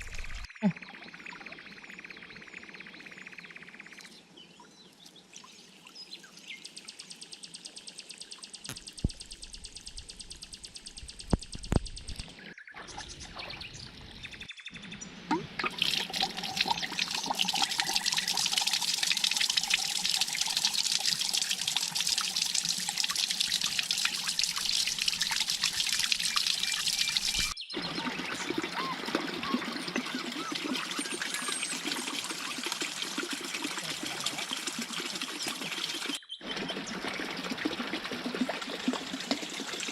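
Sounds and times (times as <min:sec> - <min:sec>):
water pouring and trickling: 0:00.0 - 0:00.8, 0:03.9 - 0:14.4, 0:15.3 - 0:39.9.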